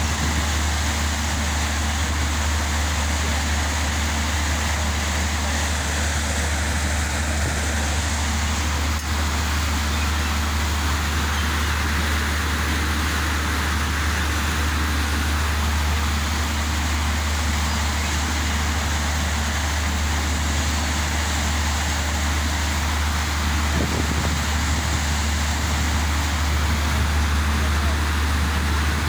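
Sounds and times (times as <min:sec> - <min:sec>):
constant rushing noise: 0:00.0 - 0:29.0
ship engine drone: 0:00.0 - 0:29.0.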